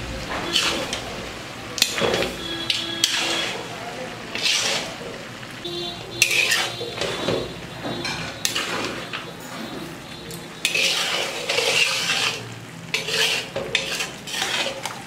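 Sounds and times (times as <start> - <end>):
utensil scraping metal pot: 0.4 - 1.1, 1.8 - 3.7, 4.3 - 5.0, 6.2 - 15.0.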